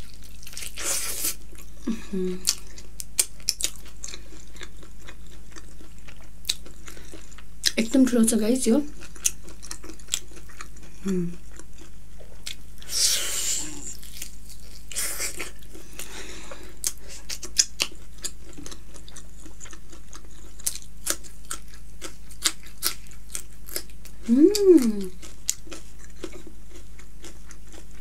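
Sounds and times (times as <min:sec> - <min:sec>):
person chewing meat: 0:00.0 - 0:07.8, 0:08.9 - 0:12.9, 0:13.6 - 0:28.0.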